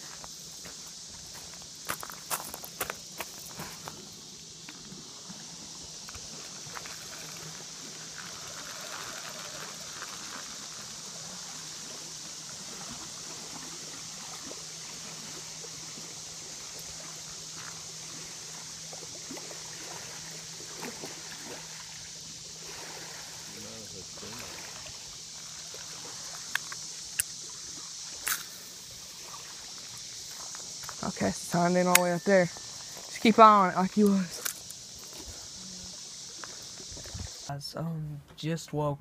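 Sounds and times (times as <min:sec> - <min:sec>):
outdoor background hiss: 0:00.0 - 0:39.0.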